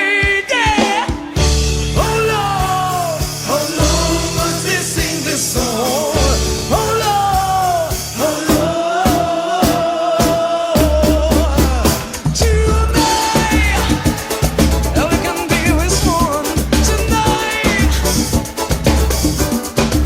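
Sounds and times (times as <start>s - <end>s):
song with lead vocal: 0.0s - 20.0s.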